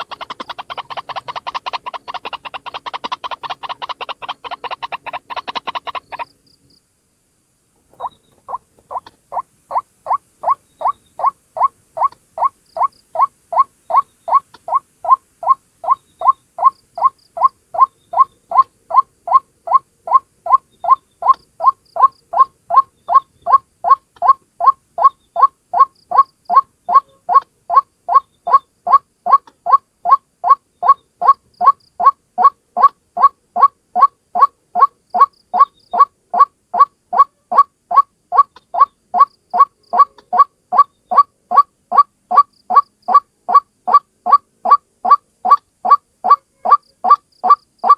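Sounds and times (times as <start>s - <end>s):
waterhen calling: 0.0s - 6.3s, 7.9s - 47.9s.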